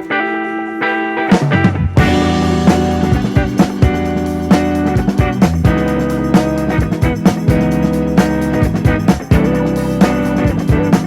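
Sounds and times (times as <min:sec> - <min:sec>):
guitar-led band music with drums: 0:00.0 - 0:11.0.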